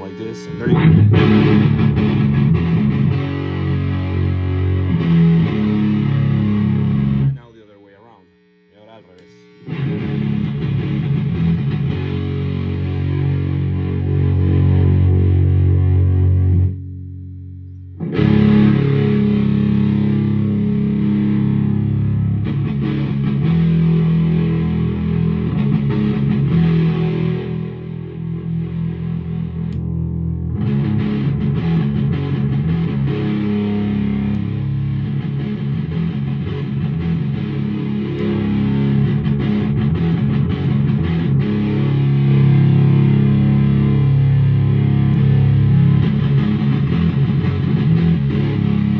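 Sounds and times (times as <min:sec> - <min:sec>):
fuzz electric guitar: 0:00.0 - 0:07.4, 0:08.3 - 0:48.9.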